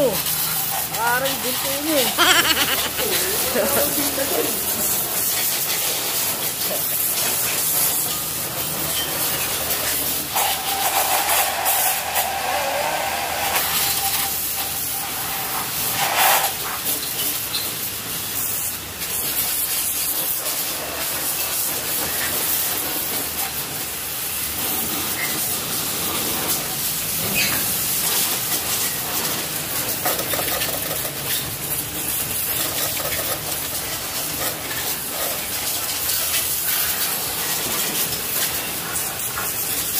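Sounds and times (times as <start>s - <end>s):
steady hissing spray: 0.0s - 2.2s, 2.9s - 39.9s.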